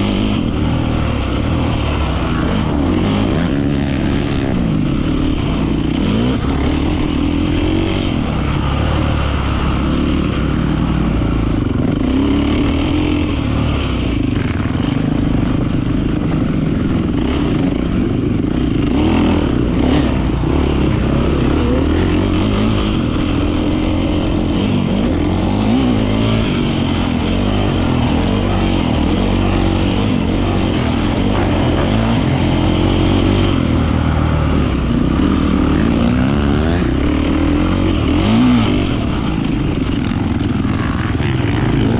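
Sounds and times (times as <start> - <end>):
motocross engine revving: 0.0 - 41.9.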